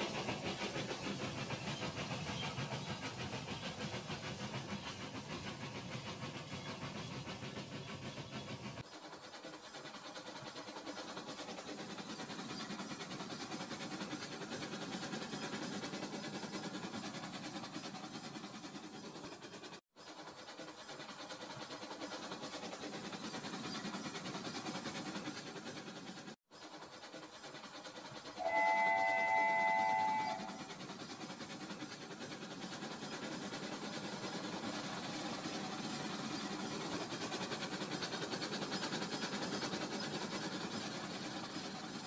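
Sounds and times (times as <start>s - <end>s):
toy trains whirring and clattering: 0.0s - 42.0s
wheels clicking on track: 0.0s - 42.0s.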